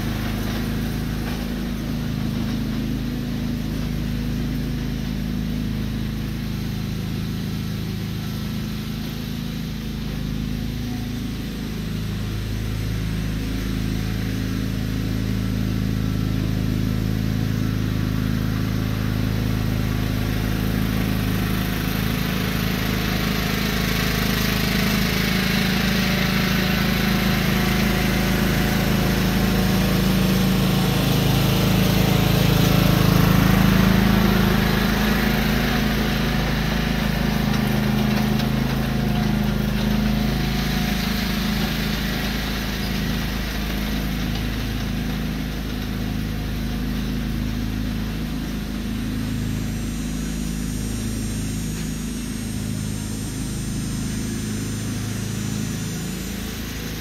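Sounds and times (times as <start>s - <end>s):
lawn tractor engine running: 0.0s - 57.0s.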